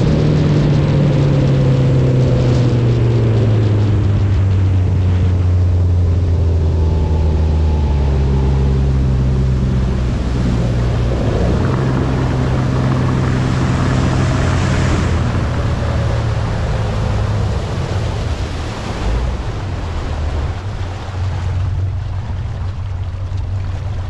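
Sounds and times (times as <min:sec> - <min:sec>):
outboard motor running: 0:00.0 - 0:24.0
water rushing past hull: 0:00.0 - 0:24.0.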